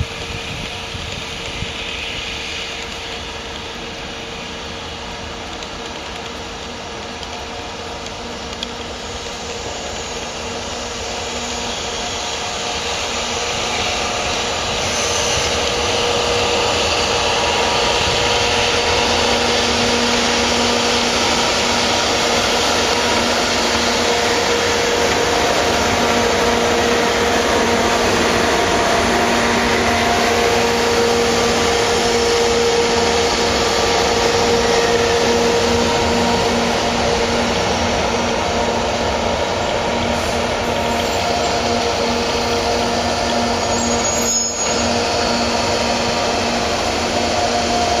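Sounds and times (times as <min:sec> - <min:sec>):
freight train rumbling past: 0:00.0 - 0:48.0.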